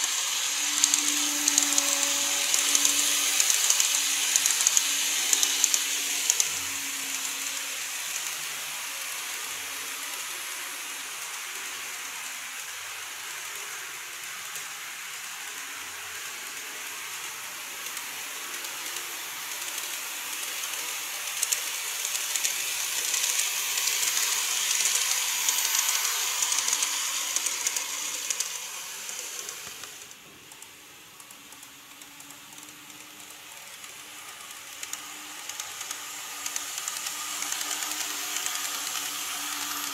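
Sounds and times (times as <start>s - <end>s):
model trains rattling on track: 0.0s - 39.9s.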